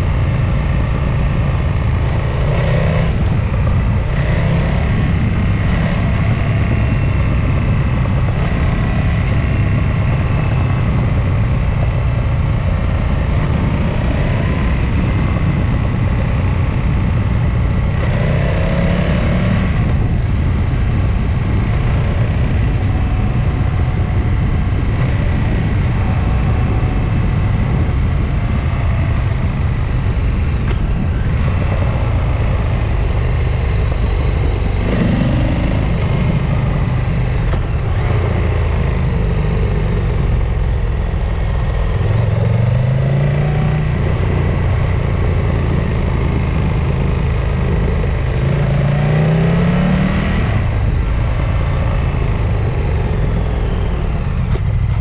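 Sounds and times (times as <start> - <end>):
vehicle engine accelerating: 0.0 - 55.0
wind and road noise: 0.0 - 55.0.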